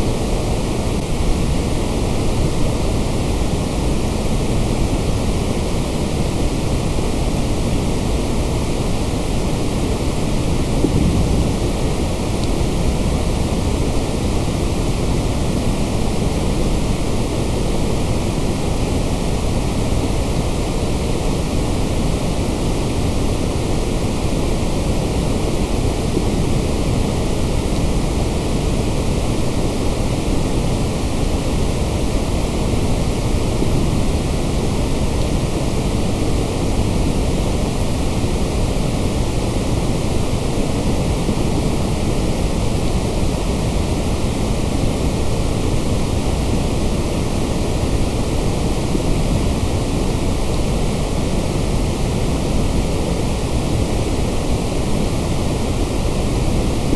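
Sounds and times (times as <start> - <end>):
white noise: 0.0 - 56.9.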